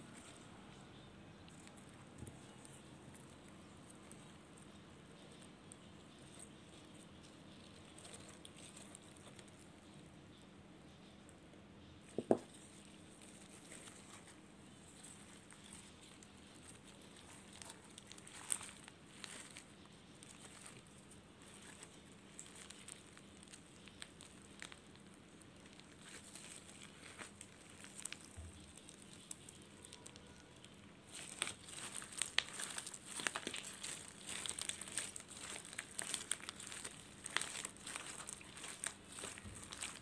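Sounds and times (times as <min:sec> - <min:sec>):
slime crackling and popping: 0:00.1 - 0:10.4, 0:12.1 - 0:40.0.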